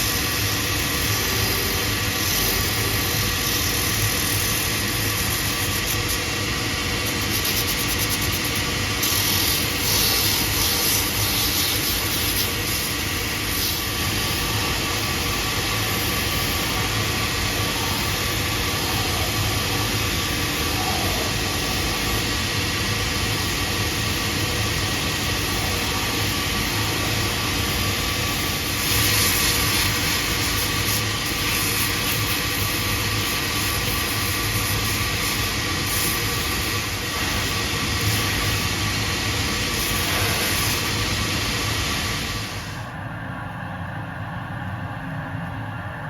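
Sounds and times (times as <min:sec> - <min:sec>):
workshop machine motor running: 0:00.0 - 0:46.0.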